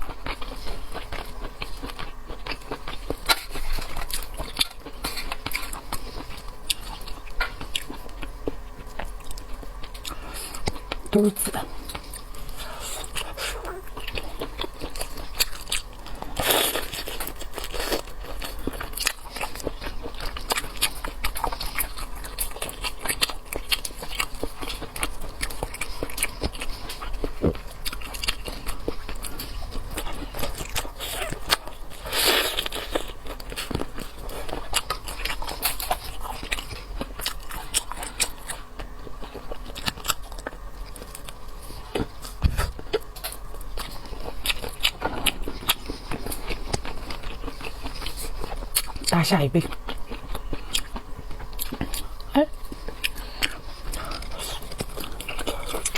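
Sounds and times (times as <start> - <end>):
crunchy chewing of seafood: 0.0 - 55.9.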